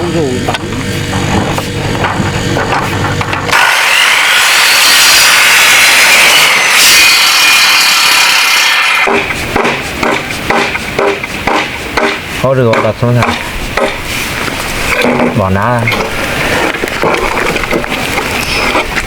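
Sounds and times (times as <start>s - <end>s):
power saw cutting wood: 0.0s - 19.0s.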